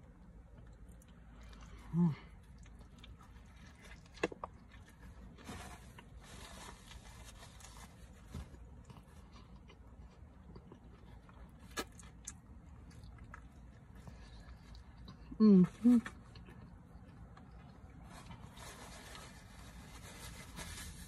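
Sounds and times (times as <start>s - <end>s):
faint chewing and mouth sounds: 0.0s - 21.0s.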